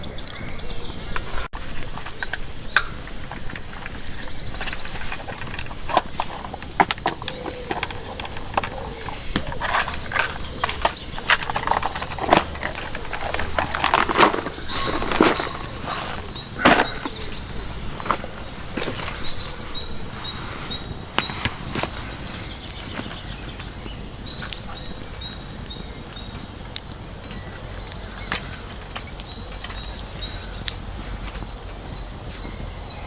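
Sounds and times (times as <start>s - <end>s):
songbird chirping: 0.0s - 33.0s.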